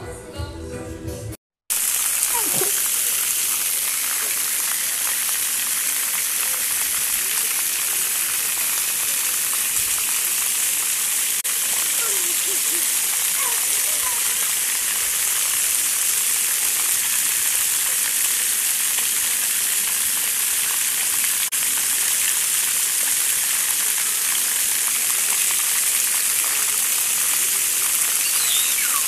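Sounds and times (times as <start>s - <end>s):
water jets spraying onto concrete: 1.7s - 29.0s.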